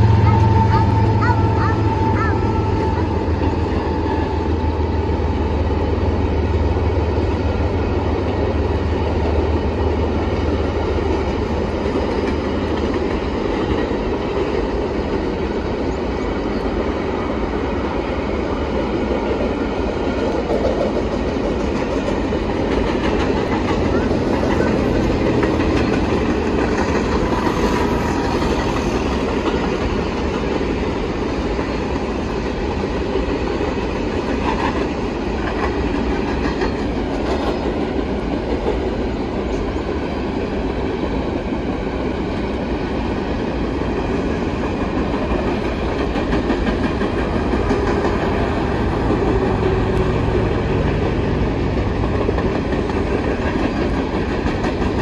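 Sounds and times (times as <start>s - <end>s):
train wheels rumbling on rails: 0.0s - 55.0s
wheels clickety-clack: 6.8s - 16.8s, 18.7s - 55.0s.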